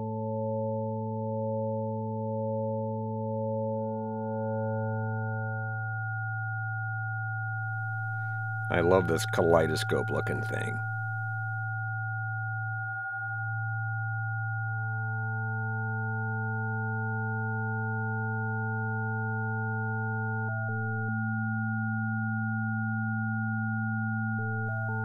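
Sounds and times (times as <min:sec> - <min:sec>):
chord of steady pure tones: 0:00.0 - 0:25.0.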